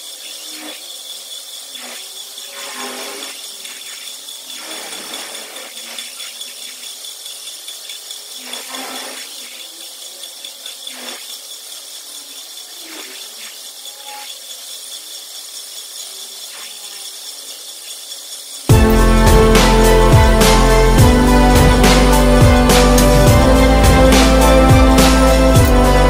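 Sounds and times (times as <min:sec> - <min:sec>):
flywheel resurfacing machine whine: 0:00.0 - 0:26.0.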